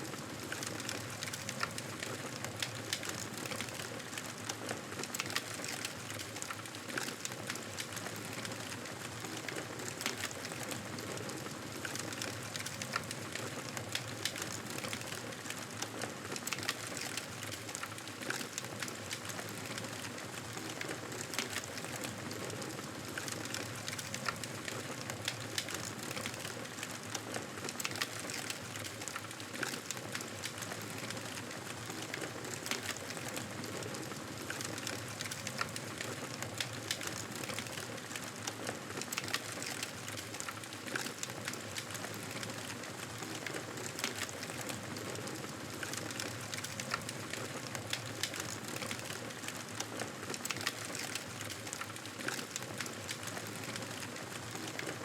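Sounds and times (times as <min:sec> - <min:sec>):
wood fire crackling and popping: 0:00.1 - 0:55.0.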